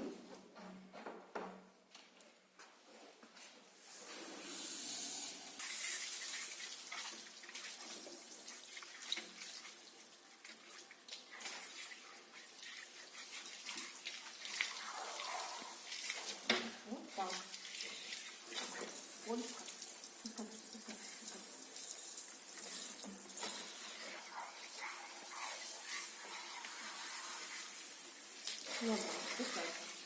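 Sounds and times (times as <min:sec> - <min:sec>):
water running and splashing: 0:04.3 - 0:30.0.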